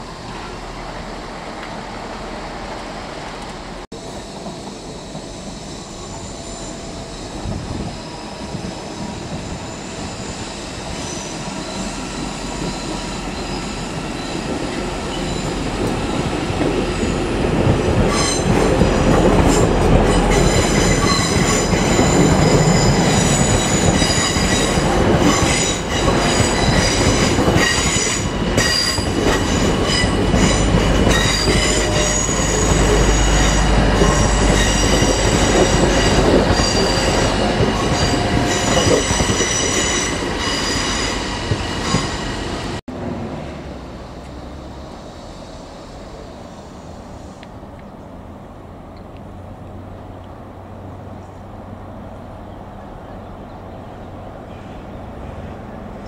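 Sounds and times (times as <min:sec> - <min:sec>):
electric train rumble: 0:00.0 - 0:56.0.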